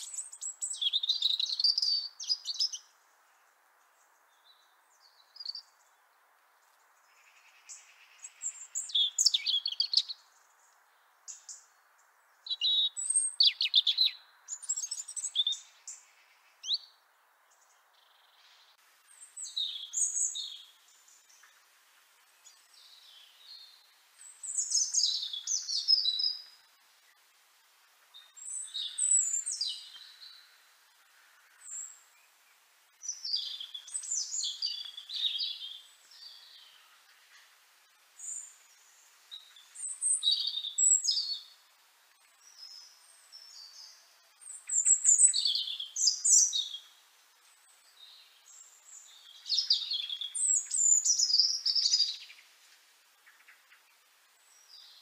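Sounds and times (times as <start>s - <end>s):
robin singing: 0.0s - 27.3s, 28.0s - 55.0s
faint background hiss: 0.0s - 55.0s.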